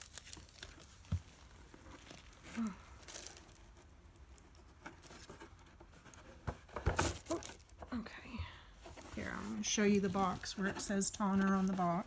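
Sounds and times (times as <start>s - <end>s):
plastic packaging rustling: 0.0s - 8.0s, 8.8s - 12.0s.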